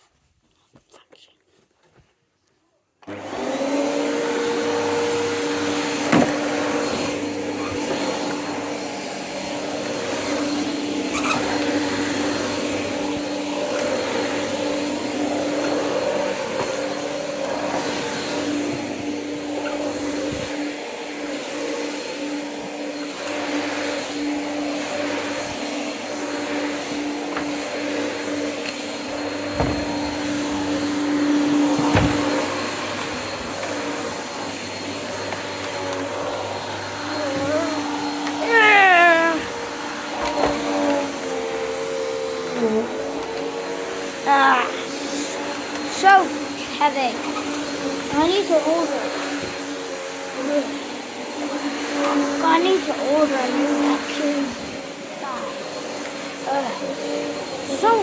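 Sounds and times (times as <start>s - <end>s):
vacuum cleaner running: 3.0s - 58.0s.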